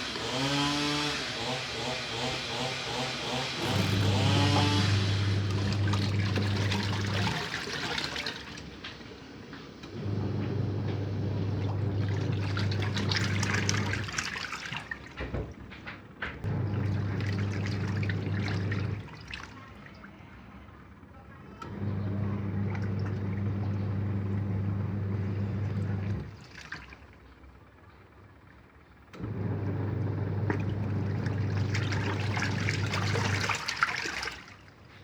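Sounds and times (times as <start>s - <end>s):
water churning and splashing: 0.0s - 27.6s, 29.6s - 35.0s
washing machine motor humming: 0.0s - 35.0s.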